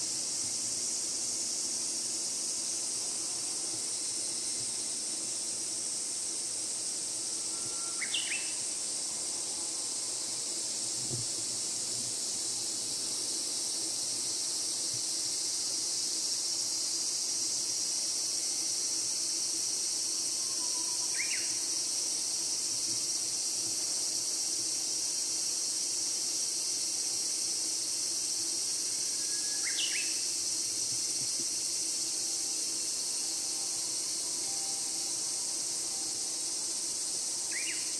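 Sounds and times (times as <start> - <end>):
insect chorus shrilling: 0.0 - 37.9.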